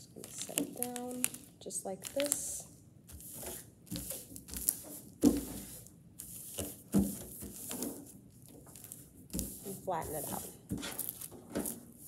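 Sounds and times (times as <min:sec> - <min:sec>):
hands patting plastic film: 0:00.0 - 0:12.0
plastic film rustling and crinkling: 0:00.0 - 0:12.0.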